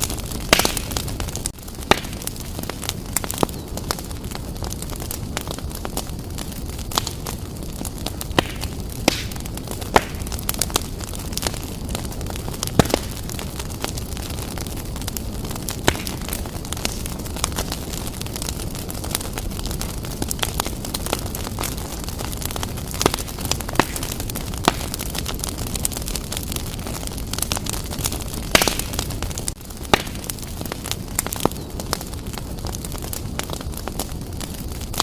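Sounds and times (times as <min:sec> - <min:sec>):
fire crackles and pops: 0:00.0 - 0:35.0
flame rumbling: 0:00.0 - 0:35.0.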